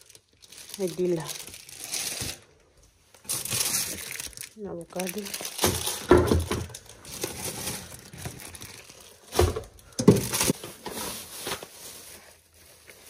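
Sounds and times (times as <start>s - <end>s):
food packaging crinkling: 0.0s - 13.0s.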